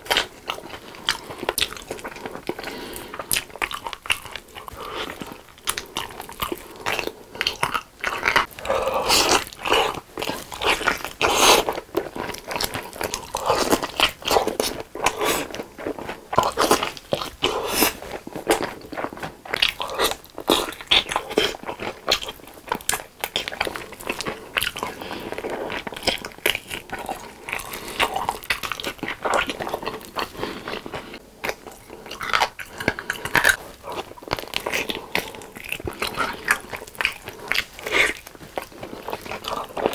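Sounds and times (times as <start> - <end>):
crunching fried chicken: 0.0 - 39.9
wet chewing: 0.0 - 39.9.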